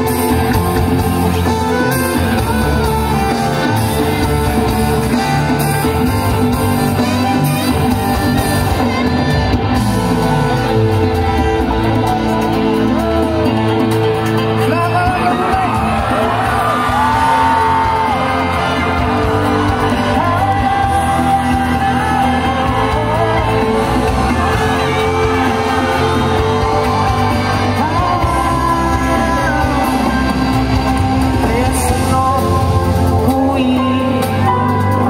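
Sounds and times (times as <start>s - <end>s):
live band playing: 0.0s - 35.0s
person singing: 0.0s - 35.0s.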